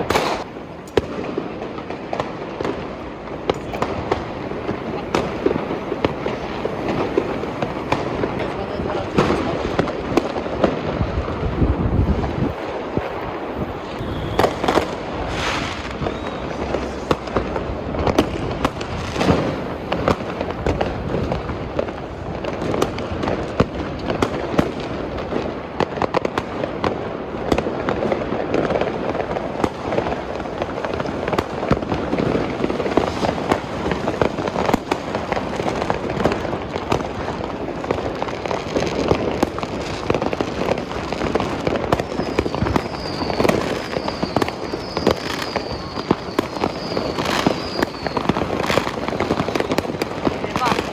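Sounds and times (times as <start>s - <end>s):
fireworks cracking and banging: 0.0s - 50.9s.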